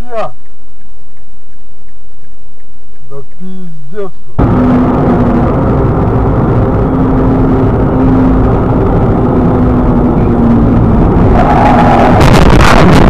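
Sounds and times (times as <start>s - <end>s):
car engine and road noise: 0.0s - 13.0s
low hum: 0.0s - 13.0s.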